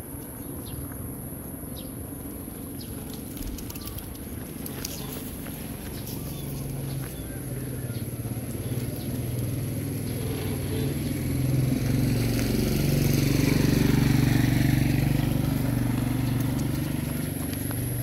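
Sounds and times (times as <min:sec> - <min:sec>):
small motorcycle engine passing: 0:02.6 - 0:18.0.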